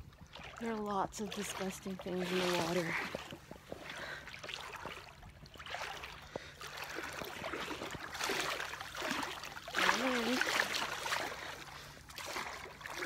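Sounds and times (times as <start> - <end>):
water splashing around swimmer: 0.0 - 13.0.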